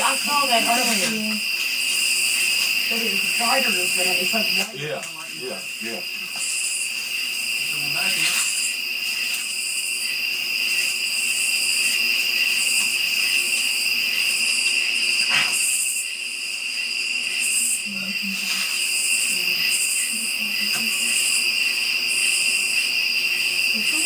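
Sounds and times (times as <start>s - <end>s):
crickets trilling: 0.0s - 24.0s
high pulsing insect buzz: 0.0s - 24.0s.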